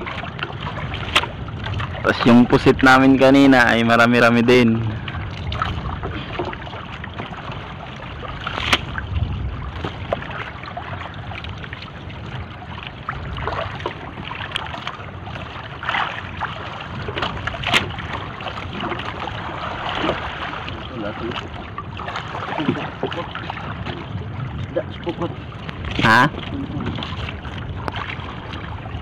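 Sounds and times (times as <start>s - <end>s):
low rumble: 0.0s - 29.0s
water rushing along boat hull: 0.0s - 29.0s
water slapping hull: 0.0s - 29.0s.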